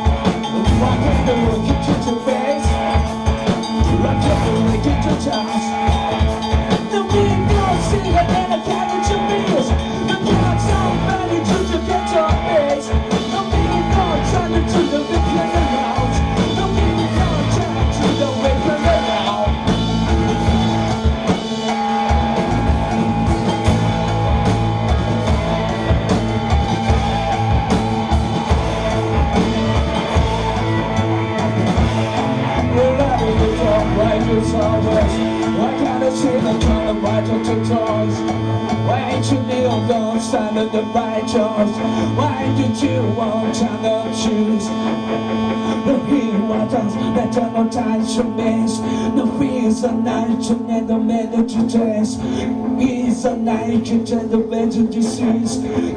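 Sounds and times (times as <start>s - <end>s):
live rock band playing: 0.0s - 55.9s
person singing: 0.0s - 55.9s.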